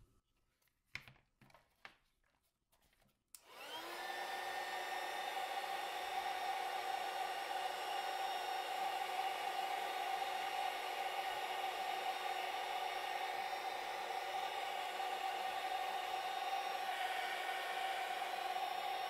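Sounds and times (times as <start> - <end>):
heat gun fan whining: 3.4 - 19.0.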